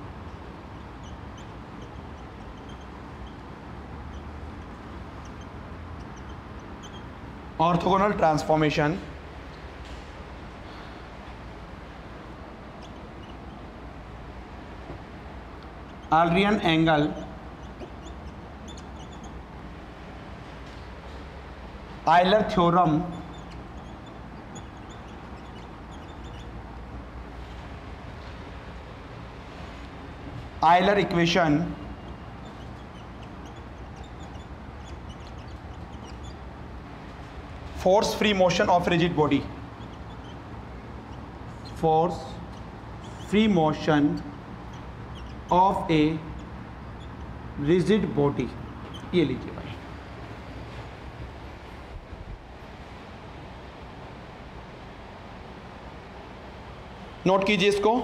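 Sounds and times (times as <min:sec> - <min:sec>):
whiteboard marker squeaking: 0:00.0 - 0:08.5, 0:12.1 - 0:21.3, 0:22.1 - 0:51.4
low background hum: 0:00.0 - 0:58.0.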